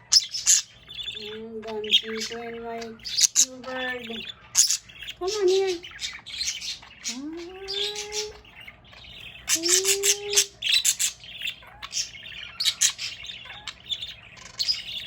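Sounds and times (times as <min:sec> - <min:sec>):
budgies chattering and warbling: 0:00.0 - 0:15.0.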